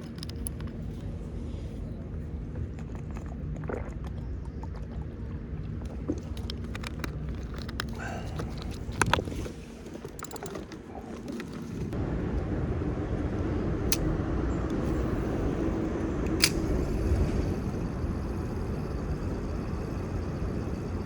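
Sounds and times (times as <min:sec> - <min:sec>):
wind and water rumble: 0:00.1 - 0:21.0.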